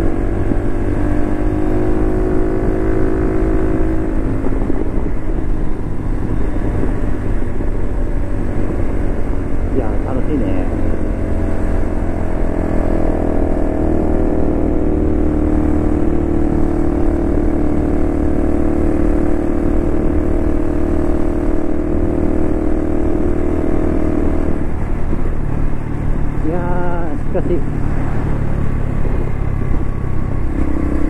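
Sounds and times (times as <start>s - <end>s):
motorcycle engine cruising: 0.0s - 31.0s
wind rush on microphone: 0.0s - 31.0s.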